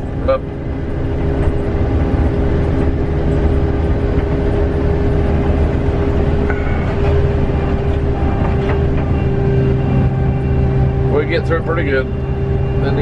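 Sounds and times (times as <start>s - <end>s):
farm vehicle engine rumbling: 0.0s - 13.0s.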